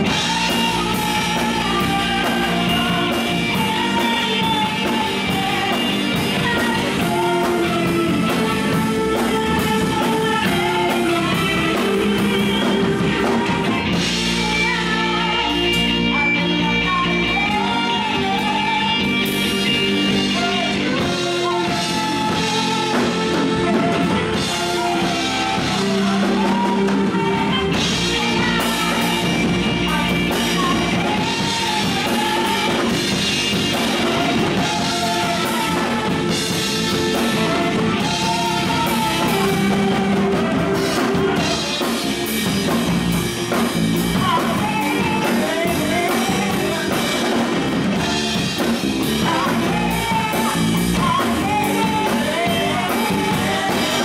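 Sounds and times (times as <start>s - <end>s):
live rock band playing: 0.0s - 54.0s
women singing: 0.0s - 54.0s.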